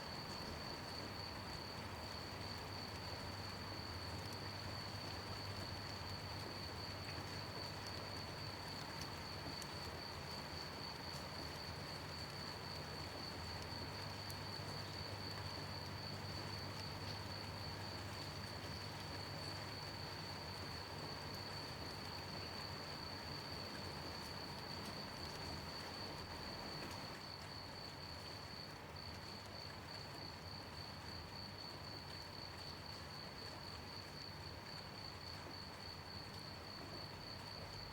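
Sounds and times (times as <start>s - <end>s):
faint water drips: 0.0s - 37.9s
gentle rain: 0.0s - 37.9s
crickets chirping: 0.1s - 5.9s, 9.2s - 37.9s.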